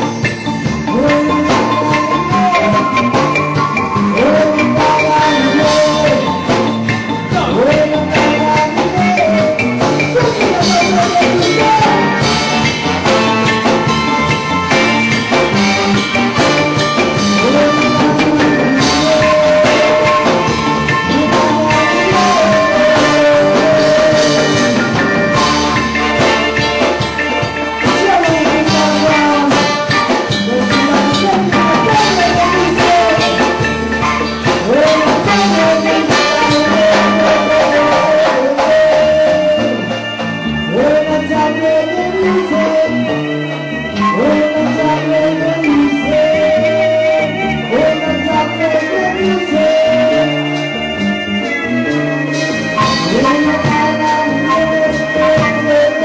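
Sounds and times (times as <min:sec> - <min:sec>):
reggae band playing: 0:00.0 - 0:56.0.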